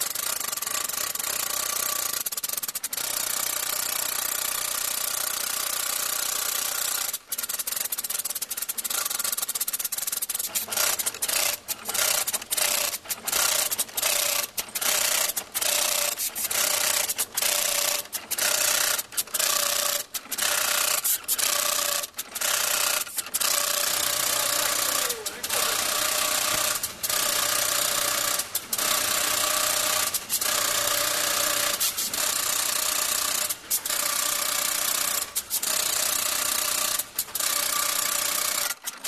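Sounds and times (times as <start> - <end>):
tufting gun rasping buzz: 0.0 - 39.0.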